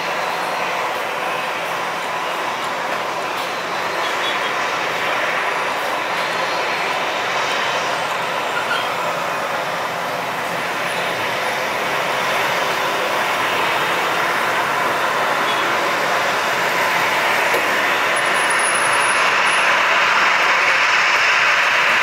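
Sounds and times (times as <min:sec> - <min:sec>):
jet engines rushing hiss: 0:00.0 - 0:22.0.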